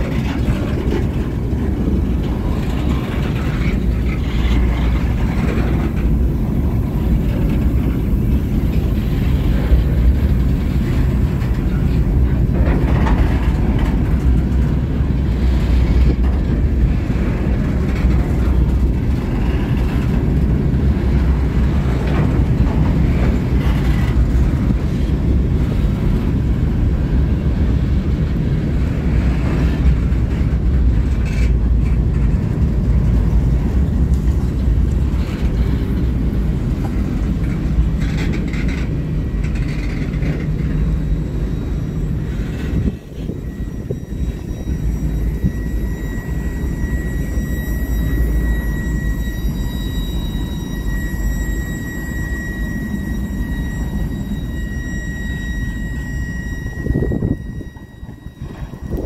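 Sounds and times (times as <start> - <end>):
high wheel squeals: 0.0 - 59.0
train wheels rumbling on rail: 0.0 - 59.0.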